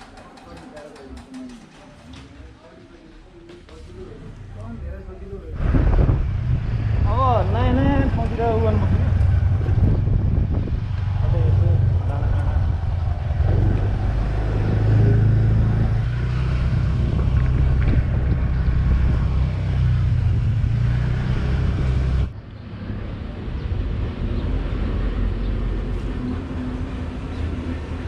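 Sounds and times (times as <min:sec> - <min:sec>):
vehicle engine and road rumble: 0:03.8 - 0:28.0.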